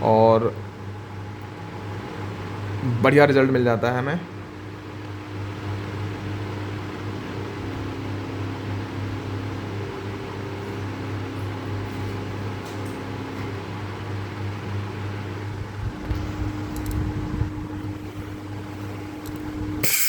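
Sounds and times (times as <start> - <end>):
machine hum with fan whir: 0.0 - 20.0.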